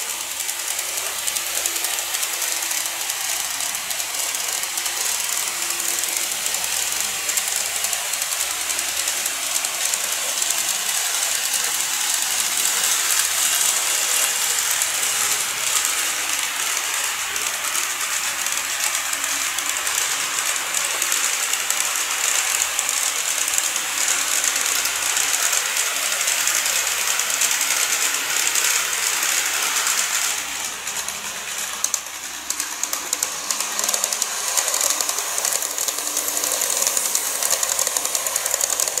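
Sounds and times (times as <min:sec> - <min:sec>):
model train wheels rattling: 0:00.0 - 0:39.0.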